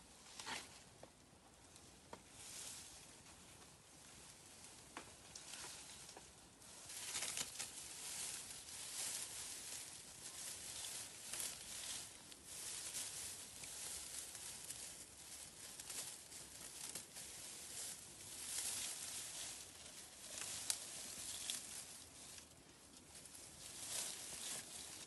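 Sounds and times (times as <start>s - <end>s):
leafy branches rustling: 0.0s - 25.0s.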